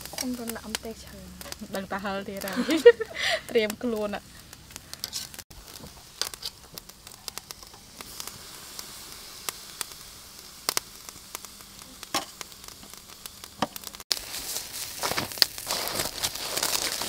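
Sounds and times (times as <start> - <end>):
chicken sizzling on a grill: 0.0 - 17.0
fat crackling and popping: 0.0 - 17.0.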